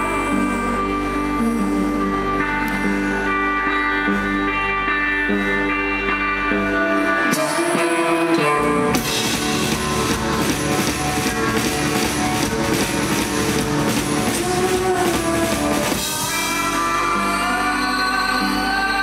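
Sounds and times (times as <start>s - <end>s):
bass guitar: 0.0s - 19.0s
drums: 0.0s - 19.0s
electric guitar: 0.0s - 19.0s.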